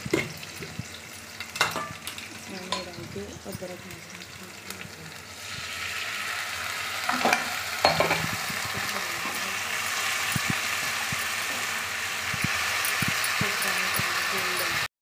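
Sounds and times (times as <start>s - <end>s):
onions sizzling in oil: 0.0s - 14.9s.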